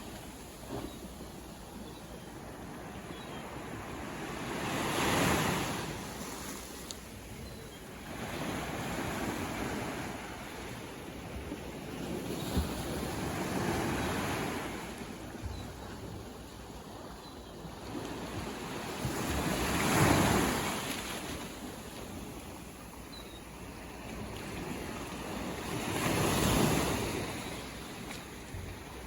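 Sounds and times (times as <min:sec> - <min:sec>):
ocean waves breaking on shore: 0:00.0 - 0:29.0.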